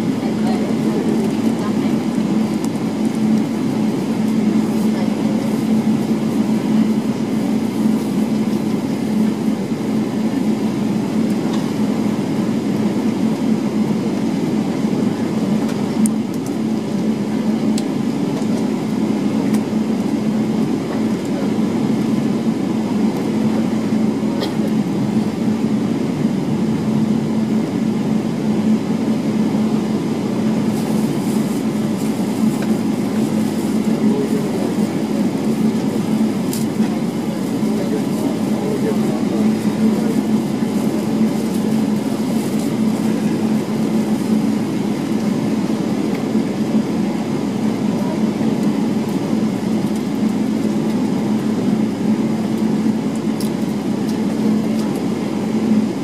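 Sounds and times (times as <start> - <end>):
jet engines idling hum: 0.0 - 56.0.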